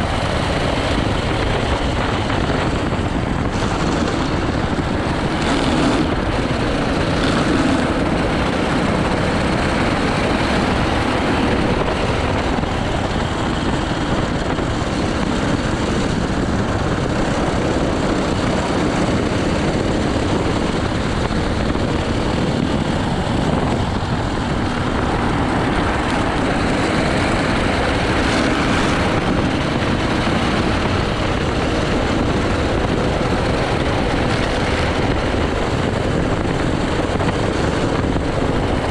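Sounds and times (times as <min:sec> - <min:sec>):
go-kart engine running hard: 0:00.0 - 0:38.9
wind noise: 0:00.0 - 0:38.9.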